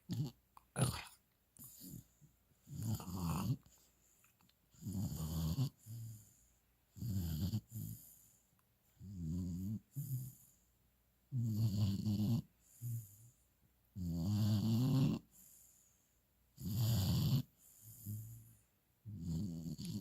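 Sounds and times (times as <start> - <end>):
puppy snoring: 0.0 - 3.9, 4.7 - 8.3, 9.0 - 10.6, 11.3 - 15.8, 16.5 - 20.0.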